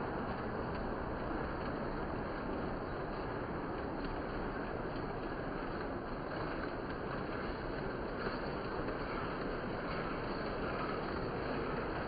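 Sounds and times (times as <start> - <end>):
model trains rumbling: 0.0 - 12.0.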